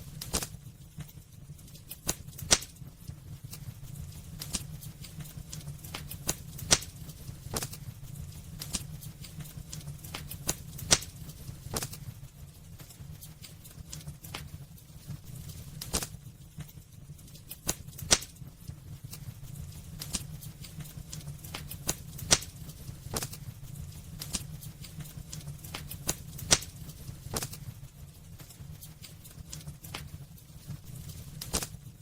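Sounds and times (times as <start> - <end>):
low fire rumble: 0.0 - 32.0
wood fire crackling and popping: 0.0 - 32.0.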